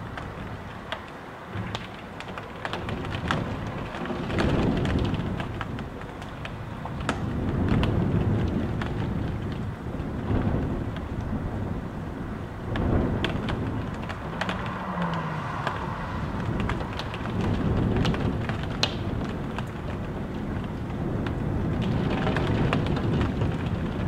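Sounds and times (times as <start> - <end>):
rain drops tapping: 0.0 - 24.0
steady rain hiss: 0.0 - 24.0
wind gusts rushing: 0.0 - 24.0.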